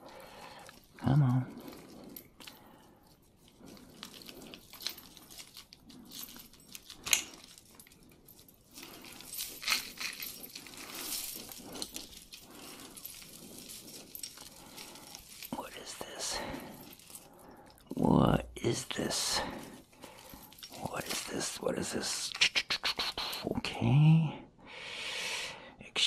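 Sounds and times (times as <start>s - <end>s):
metal jewelry chains clinking: 0.0s - 22.4s.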